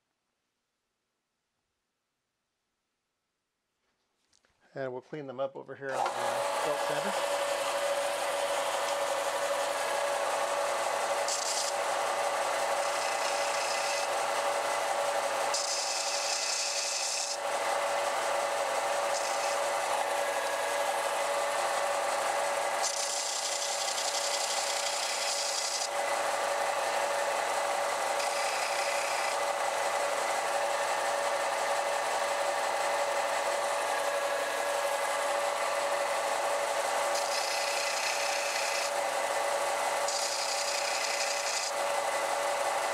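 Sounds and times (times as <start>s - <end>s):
belt sander running: 5.9s - 42.9s
circuit board rasping on sanding belt: 6.0s - 42.9s.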